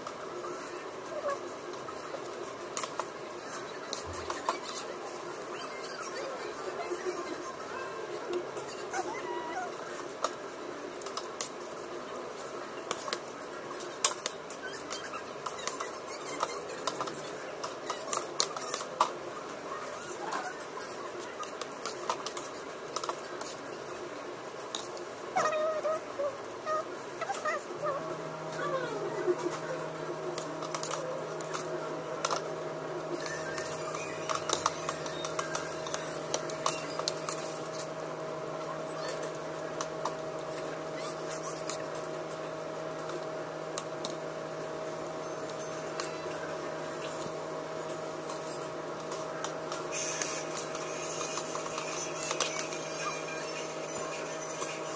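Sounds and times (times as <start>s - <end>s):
steady background hum: 0.0s - 54.9s.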